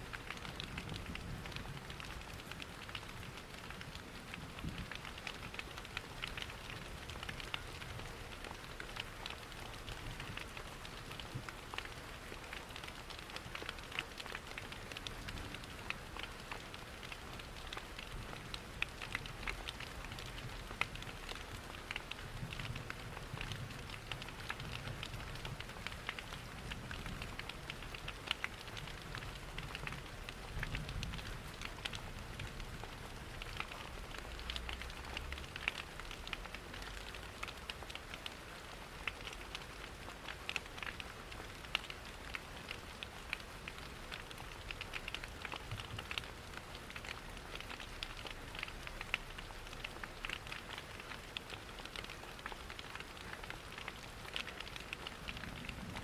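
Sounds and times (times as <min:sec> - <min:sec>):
rain patter: 0:00.0 - 0:56.0
wood fire crackling: 0:00.1 - 0:56.0.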